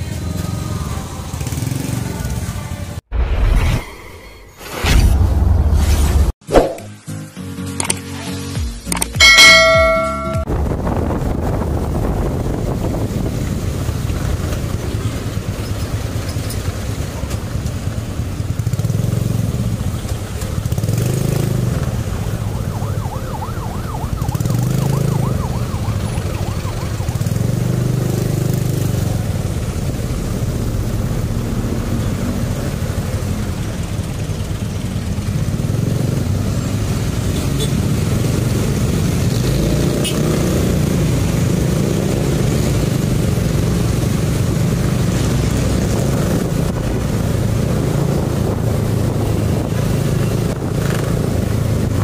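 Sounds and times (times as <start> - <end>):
road and wind noise: 0.0 - 3.5, 7.6 - 52.0.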